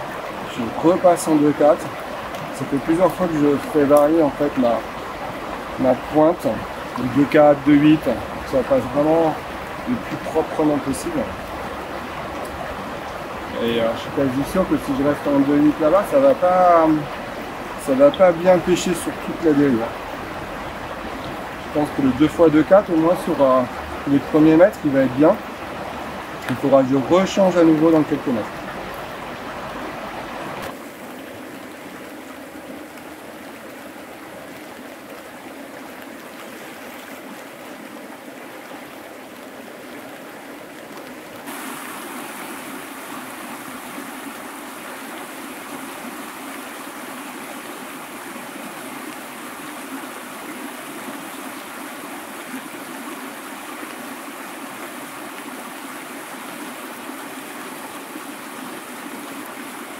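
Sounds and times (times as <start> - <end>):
river current rushing: 0.0 - 59.9.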